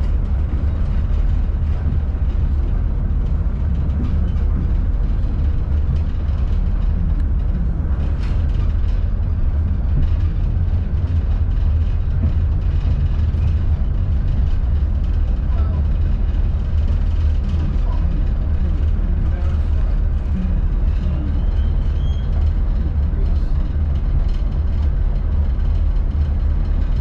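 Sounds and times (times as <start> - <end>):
train carriage rumbling on track: 0.0 - 27.0.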